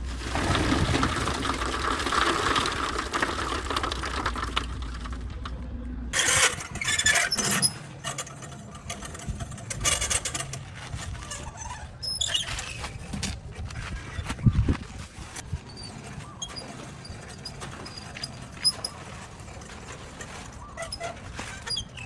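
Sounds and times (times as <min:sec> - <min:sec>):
scraping and clattering: 0:00.0 - 0:22.0.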